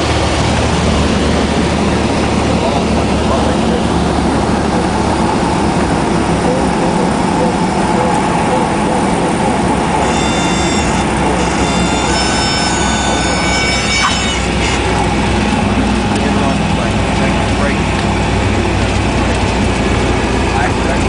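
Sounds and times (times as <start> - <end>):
high steady tone: 0.0 - 17.6
small plane engine and propeller: 0.0 - 21.0.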